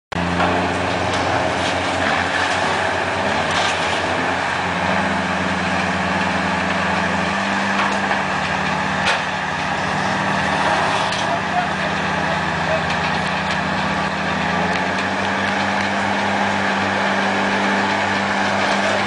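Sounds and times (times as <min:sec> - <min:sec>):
diesel truck engine running: 0:00.1 - 0:19.0.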